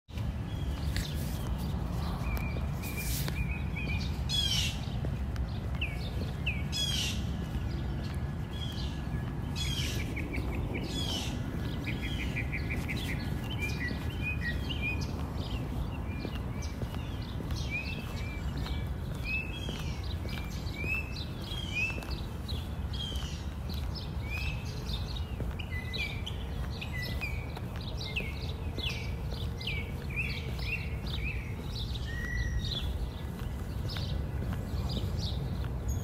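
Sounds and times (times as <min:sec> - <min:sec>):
birds chirping and calling: 0:00.2 - 0:36.0.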